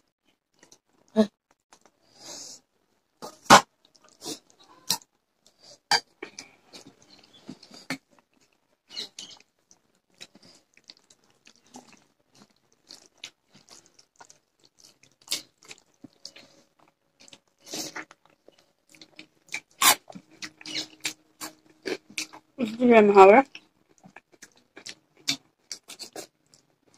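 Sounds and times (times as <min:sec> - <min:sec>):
people chewing and smacking: 0:00.2 - 0:22.6, 0:23.4 - 0:26.9.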